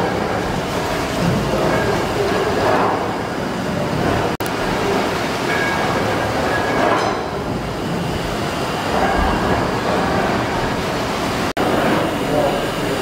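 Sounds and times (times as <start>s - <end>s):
steam pumping engine running: 0.0s - 13.0s.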